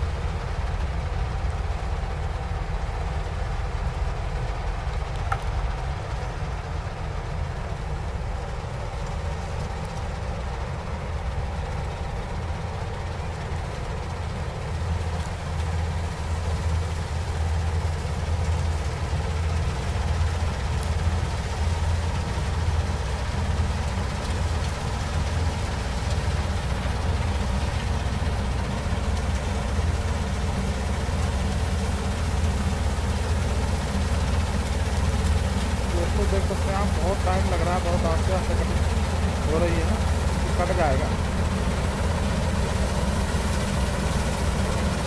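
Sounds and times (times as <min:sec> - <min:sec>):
combine harvester engine humming: 0:00.0 - 0:45.0.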